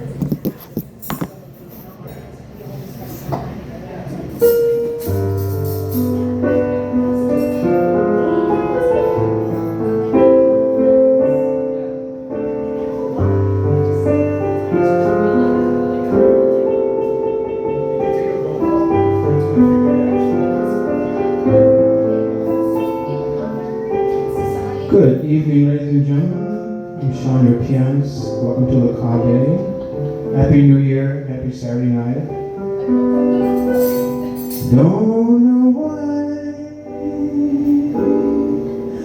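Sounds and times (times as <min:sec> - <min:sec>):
solo piano chords: 0:04.2 - 0:39.0
low piano bass note: 0:04.5 - 0:39.0.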